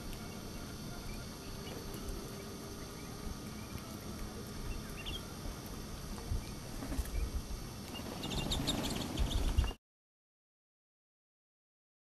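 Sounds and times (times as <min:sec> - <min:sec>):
songbirds chirping: 0:00.0 - 0:09.8.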